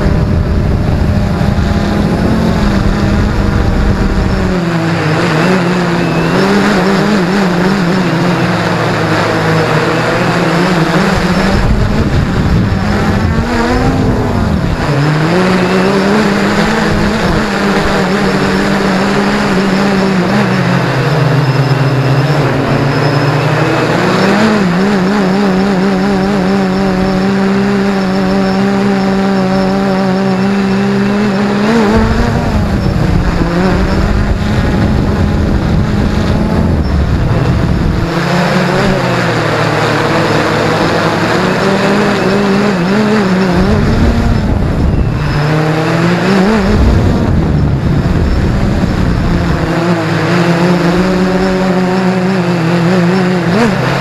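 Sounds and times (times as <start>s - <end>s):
wind buffeting microphone: 0.0s - 8.4s, 9.0s - 28.4s, 31.0s - 54.0s
drone propellers buzzing: 0.0s - 54.0s.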